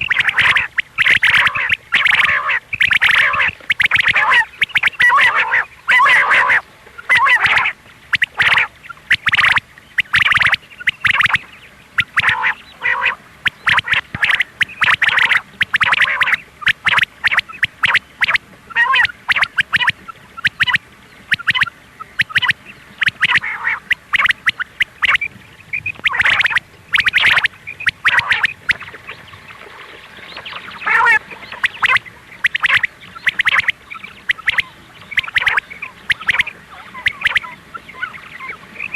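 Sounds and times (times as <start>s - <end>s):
quail calling: 0.0s - 29.4s, 30.3s - 38.9s.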